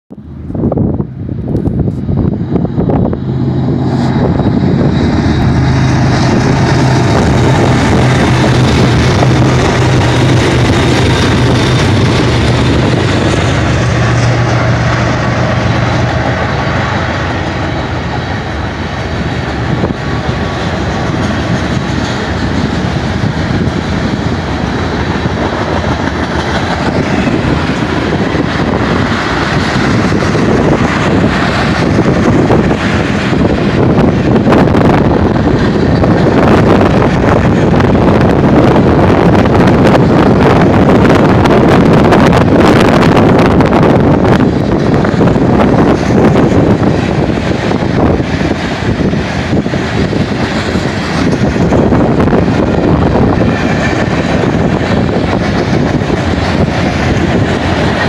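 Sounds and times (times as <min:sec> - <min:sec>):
diesel locomotive engines droning: 0:00.1 - 0:58.0
train wheels rumbling on rails: 0:00.1 - 0:58.0.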